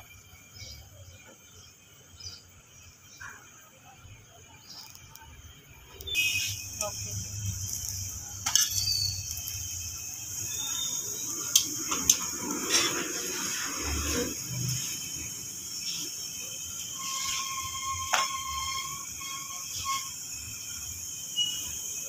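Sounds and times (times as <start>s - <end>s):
crickets chirring: 0.0s - 22.0s
thin steady tone: 0.0s - 22.0s.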